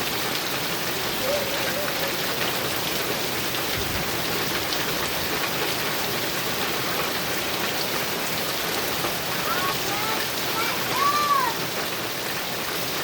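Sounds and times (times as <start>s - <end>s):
heavy rain on a metal roof: 0.0s - 13.0s.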